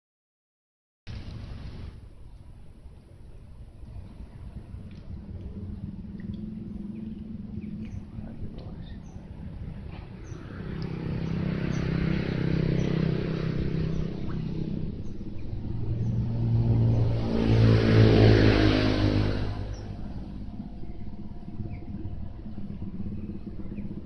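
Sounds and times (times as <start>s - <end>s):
motor vehicles passing: 1.1s - 24.0s.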